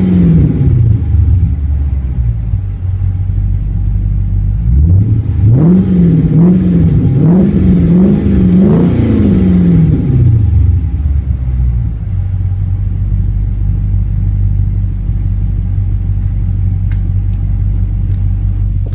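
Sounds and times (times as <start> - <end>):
car engine revving and idling: 0.0 - 18.9.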